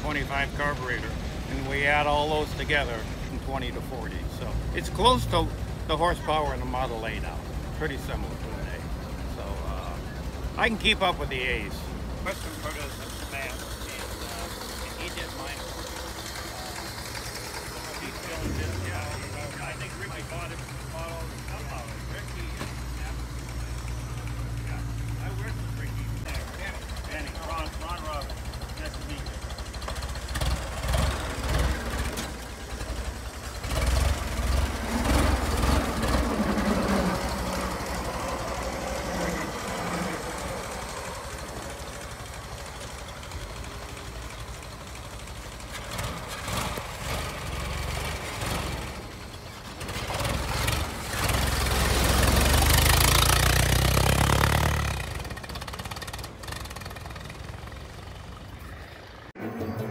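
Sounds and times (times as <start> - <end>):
truck engine driving off: 0.0 - 59.9.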